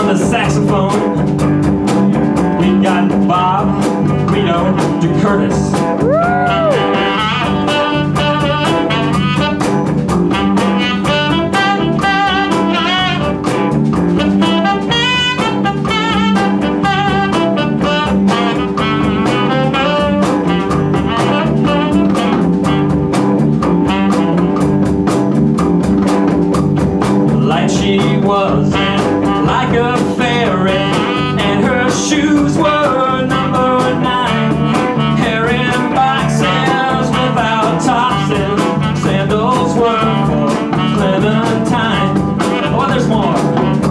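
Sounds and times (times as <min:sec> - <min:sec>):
live band playing blues: 0:00.0 - 0:43.9.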